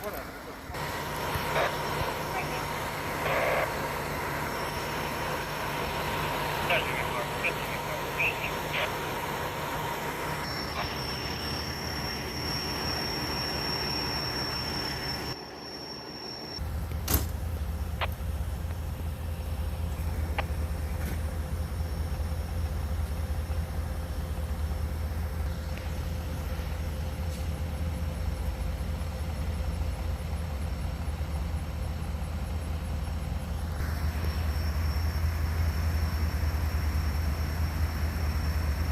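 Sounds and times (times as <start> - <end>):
deep engine rumble: 0.0 - 15.4, 16.6 - 38.9
large vehicle engines running: 0.0 - 15.4, 16.6 - 38.9
high-pitched whine: 0.0 - 38.9.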